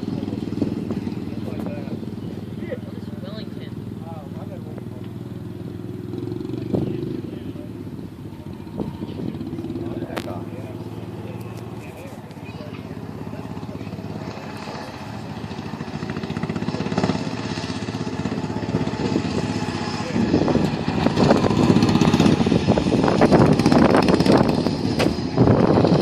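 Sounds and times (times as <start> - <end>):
riding lawn mower engines: 0.0 - 26.0.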